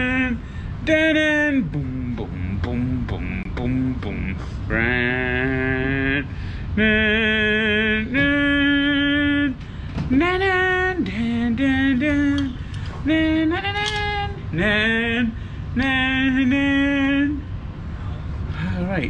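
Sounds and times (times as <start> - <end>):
man singing wordless tune: 0.0 - 17.5.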